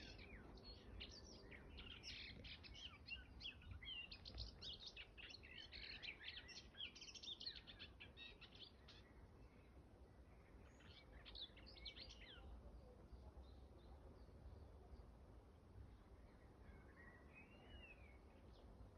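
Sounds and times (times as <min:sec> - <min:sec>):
songbird twittering song: 0:00.0 - 0:18.9.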